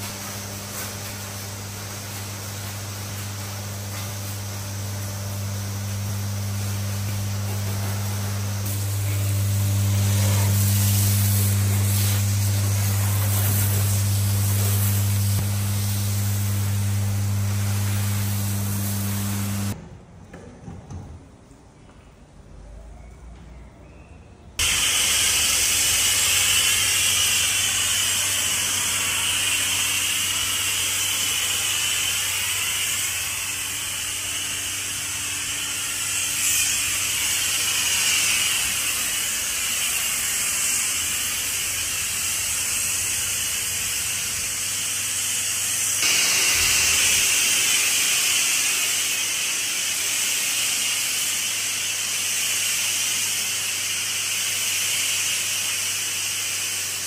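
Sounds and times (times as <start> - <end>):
pressure washer foam spraying: 0.0 - 19.8, 24.6 - 57.0.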